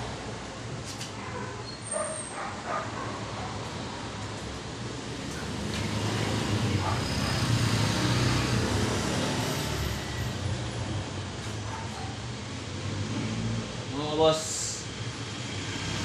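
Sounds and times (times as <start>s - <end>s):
motor vehicle passing by: 2.0s - 16.0s.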